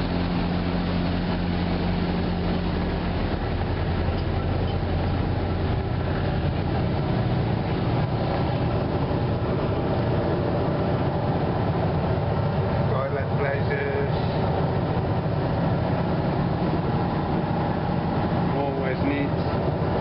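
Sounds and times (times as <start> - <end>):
engine droning: 0.0 - 20.0
low hum: 0.0 - 20.0.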